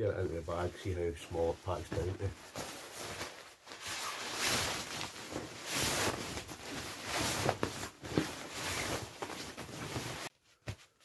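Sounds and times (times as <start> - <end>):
nylon sleeping bag rustling: 1.4 - 10.3.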